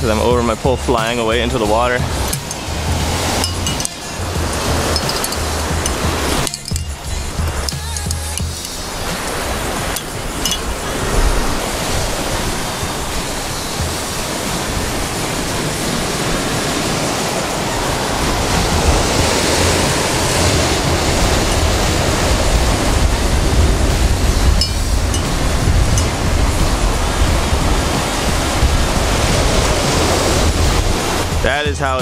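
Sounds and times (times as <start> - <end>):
ocean surf over rocks: 0.0 - 32.0.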